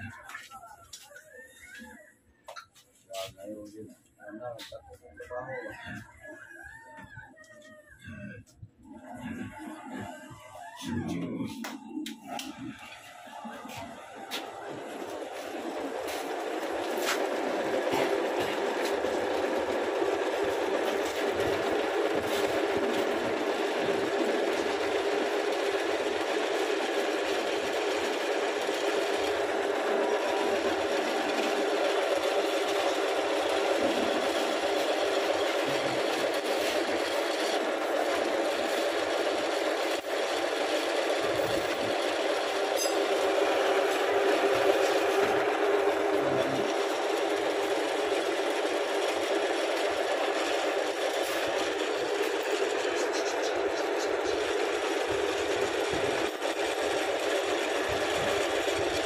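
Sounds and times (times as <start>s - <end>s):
metal lathe running: 10.5s - 59.0s.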